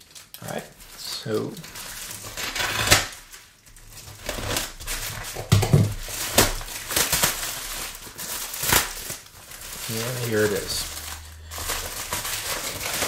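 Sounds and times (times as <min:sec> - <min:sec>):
plastic crinkling and tearing: 0:00.0 - 0:13.0
knife slitting plastic: 0:01.7 - 0:13.0.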